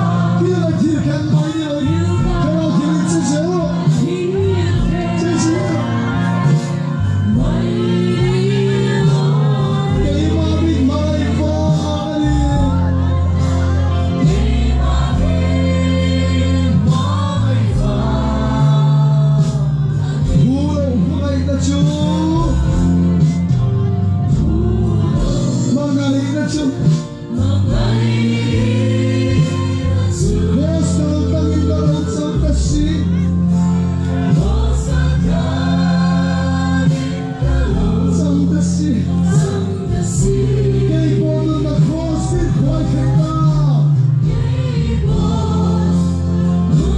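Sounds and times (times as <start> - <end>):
amplified instrumental accompaniment: 0.0 - 46.9
band with guitar and keyboard: 0.0 - 46.9
many voices singing together: 0.0 - 46.9.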